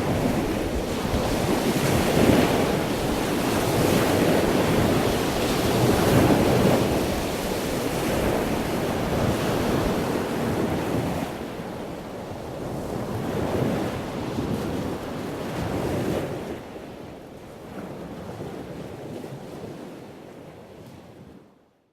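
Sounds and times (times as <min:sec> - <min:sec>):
wind buffeting microphone: 0:00.0 - 0:20.2
rushing sea water: 0:00.0 - 0:20.7.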